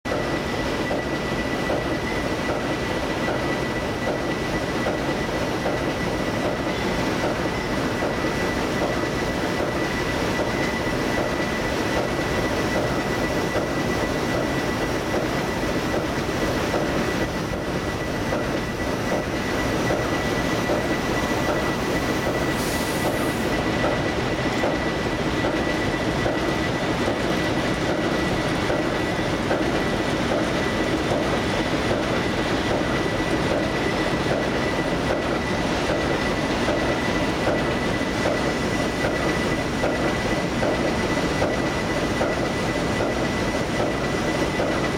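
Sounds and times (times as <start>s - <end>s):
diesel locomotives idling: 4.8s - 44.9s.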